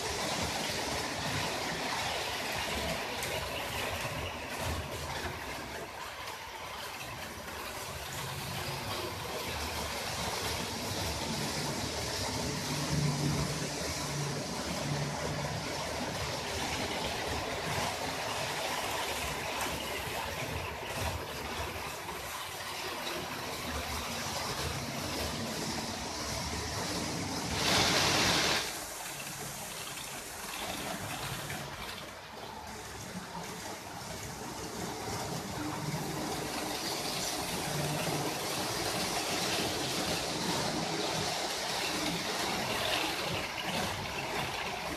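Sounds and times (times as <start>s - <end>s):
model train wheels rattling on rails: 0.0s - 44.9s.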